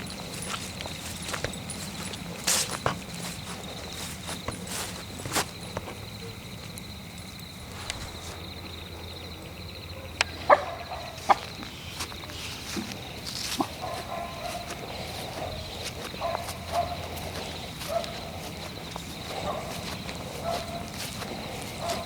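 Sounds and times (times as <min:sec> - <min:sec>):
high insect trill: 0:00.0 - 0:22.0.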